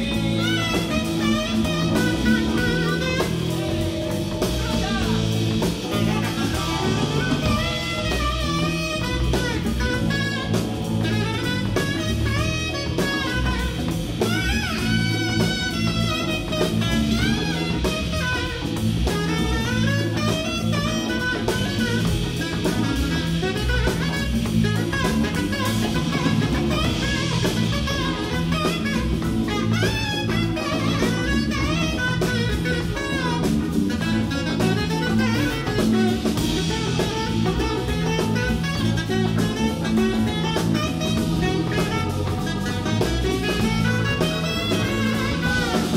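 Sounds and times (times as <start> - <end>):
jazz band playing: 0.0 - 45.9
saxophone solo: 0.0 - 45.9.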